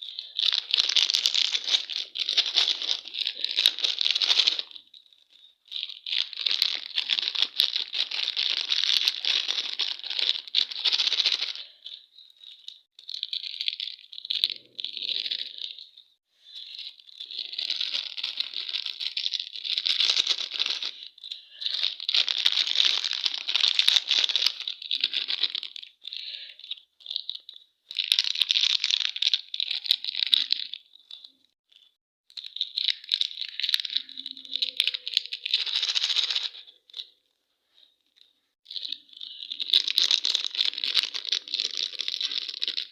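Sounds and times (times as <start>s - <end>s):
candy wrappers crinkling and tearing: 0.0s - 37.2s, 38.0s - 42.9s.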